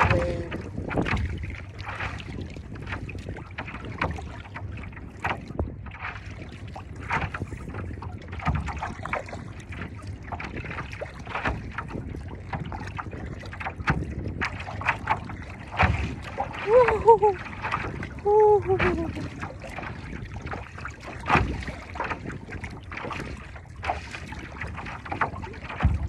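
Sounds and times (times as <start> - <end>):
water slapping against paddleboard: 0.0 - 26.0
wind rumbling on microphone: 0.0 - 26.0.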